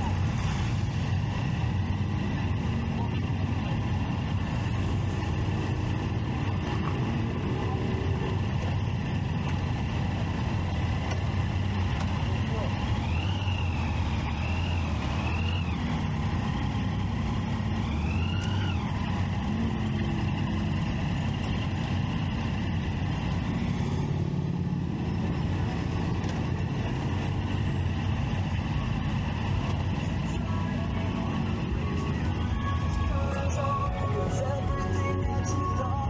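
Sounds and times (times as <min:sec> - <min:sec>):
motorcycle engine droning: 0:00.0 - 0:36.0.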